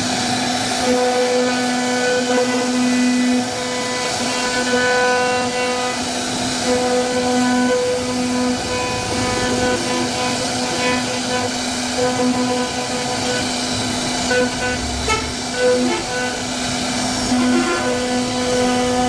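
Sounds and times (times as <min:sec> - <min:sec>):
router spindle whining: 0:00.0 - 0:19.0
router bit rasping wood: 0:00.6 - 0:19.0.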